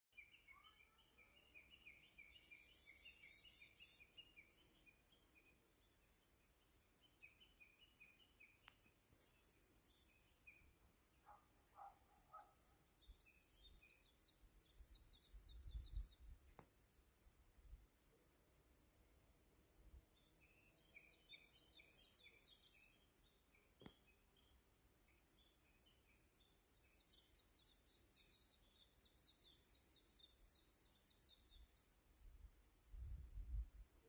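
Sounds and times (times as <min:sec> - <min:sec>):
small birds chirping: 0:00.1 - 0:17.3, 0:19.9 - 0:32.3.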